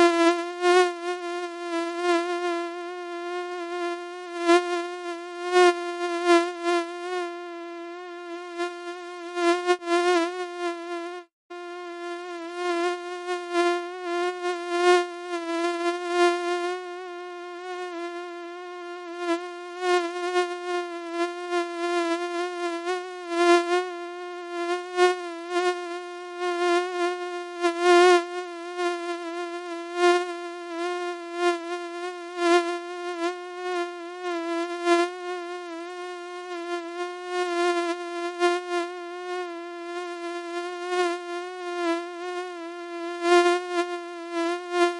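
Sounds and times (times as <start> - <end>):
mosquito buzzing: 0.0 - 44.9.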